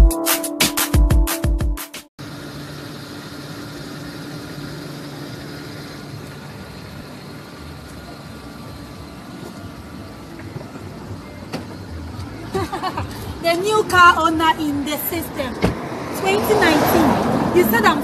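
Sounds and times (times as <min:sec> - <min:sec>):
car engine idling: 0:02.2 - 0:18.0
outdoor background noise: 0:02.2 - 0:18.0.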